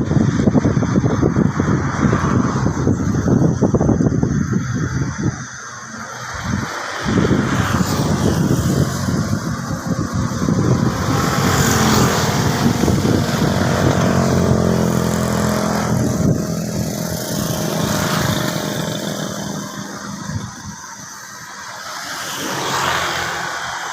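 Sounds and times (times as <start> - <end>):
vehicle engine passing: 0.0 - 21.2.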